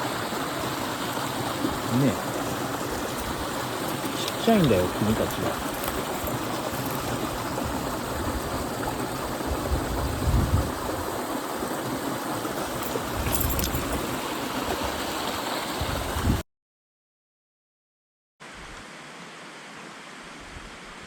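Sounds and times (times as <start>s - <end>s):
stream water rushing: 0.0s - 16.4s, 18.4s - 21.0s.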